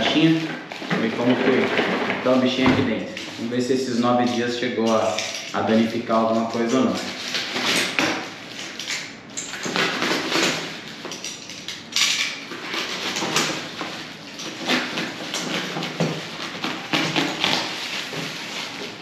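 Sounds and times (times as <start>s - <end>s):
packaging rustling and scraping: 0.0s - 19.0s.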